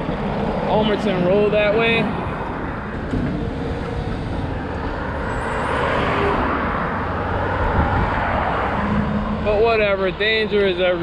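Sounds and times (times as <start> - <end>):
road traffic noise: 0.0 - 11.0
vehicle passing: 0.0 - 11.0.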